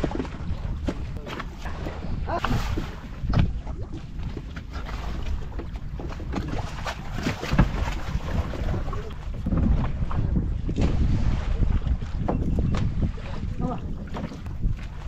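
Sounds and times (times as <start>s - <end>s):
water against boat hull: 0.0s - 15.0s
wind buffeting microphone: 0.0s - 15.0s.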